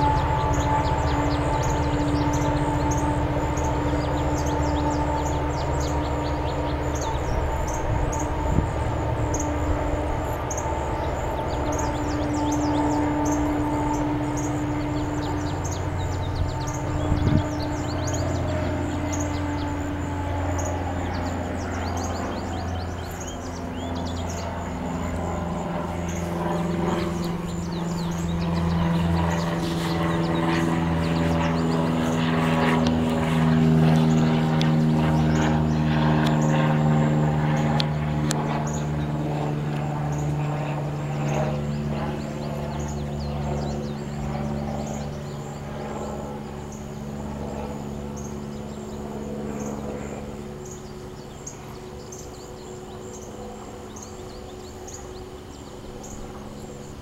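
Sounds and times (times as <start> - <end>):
distant engine droning past: 0.0 - 57.0.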